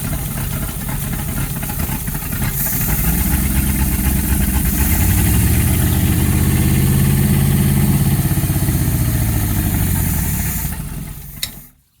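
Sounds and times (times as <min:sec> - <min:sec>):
boat engine running: 0:00.0 - 0:11.3.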